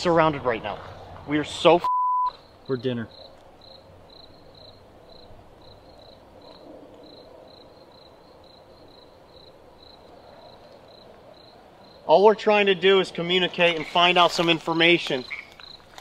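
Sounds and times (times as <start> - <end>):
cricket chirping: 2.2 - 13.0, 13.9 - 16.0.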